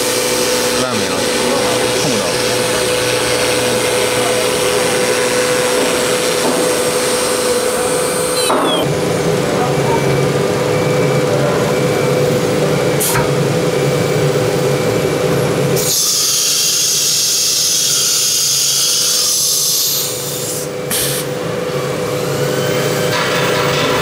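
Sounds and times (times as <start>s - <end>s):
mechanical hum: 0.0s - 24.0s.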